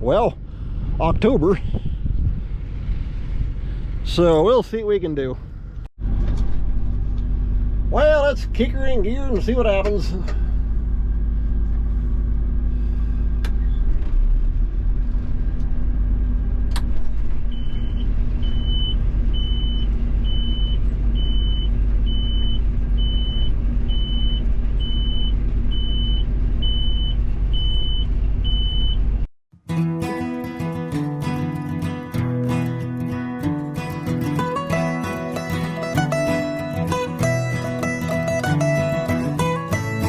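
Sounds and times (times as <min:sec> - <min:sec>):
combine harvester rumbling: 0:00.0 - 0:29.2, 0:30.1 - 0:40.0.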